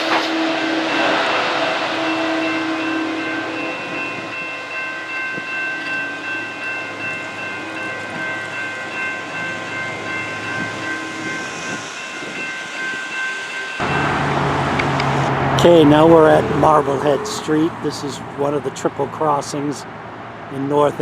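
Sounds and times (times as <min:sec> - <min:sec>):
crossing bells ringing: 0:00.0 - 0:19.8
train rolling rumble: 0:00.0 - 0:21.0.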